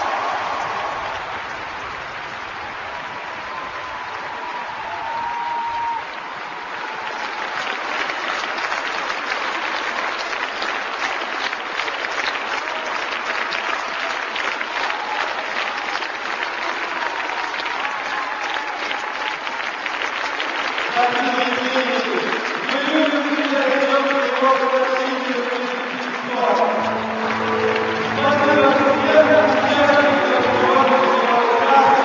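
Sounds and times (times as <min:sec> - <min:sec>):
crowd applauding: 0:00.0 - 0:32.0.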